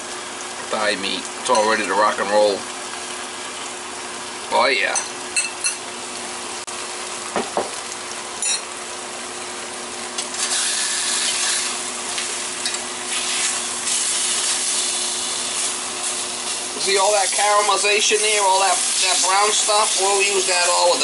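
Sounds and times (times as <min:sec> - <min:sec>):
steak sizzling in a skillet: 0:00.1 - 0:21.0.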